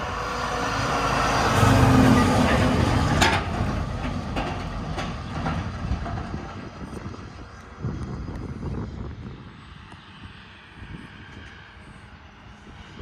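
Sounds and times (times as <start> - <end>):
heavy truck engine and tyres: 0.0 - 13.0.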